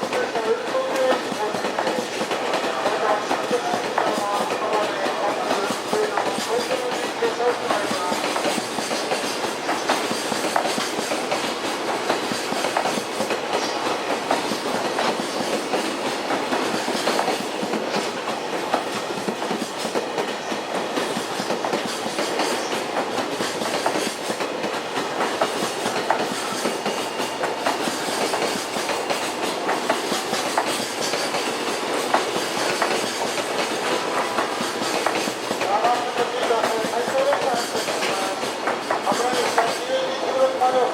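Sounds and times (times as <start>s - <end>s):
train wheels clattering over rail joints: 0.0s - 40.9s.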